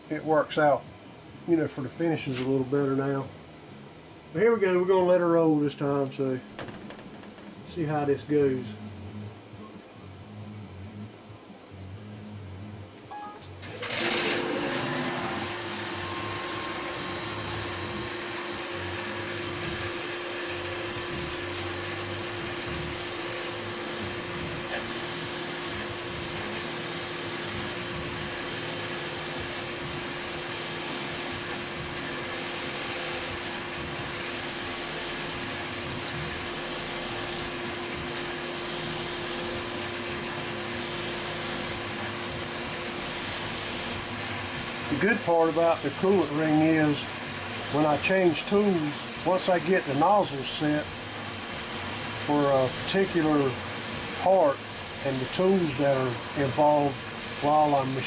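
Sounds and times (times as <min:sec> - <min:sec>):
milling machine hum: 0:06.4 - 0:58.0.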